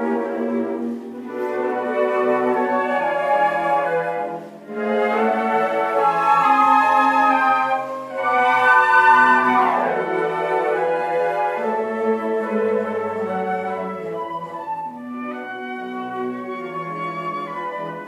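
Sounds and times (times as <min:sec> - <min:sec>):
flute orchestra playing chords: 0:00.0 - 0:18.0.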